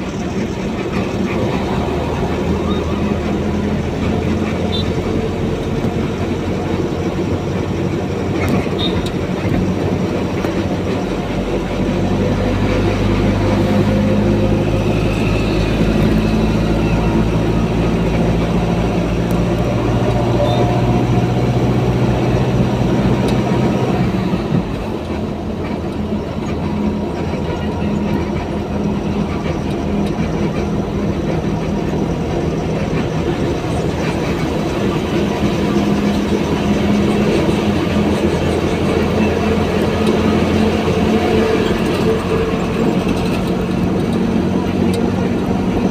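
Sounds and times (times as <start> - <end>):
heavy vehicle engine drone: 0.0 - 45.9
road or rail noise: 0.0 - 45.9.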